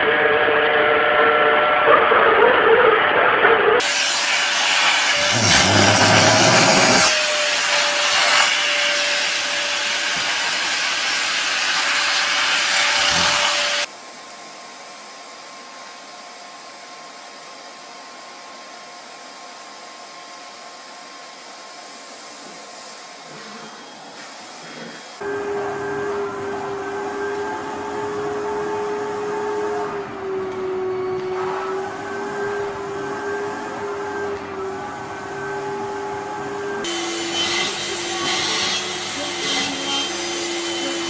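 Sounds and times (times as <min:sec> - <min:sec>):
vacuum cleaner whine: 0:00.0 - 0:02.2, 0:03.0 - 0:41.0
quieter high vacuum cleaner whine: 0:00.0 - 0:41.0.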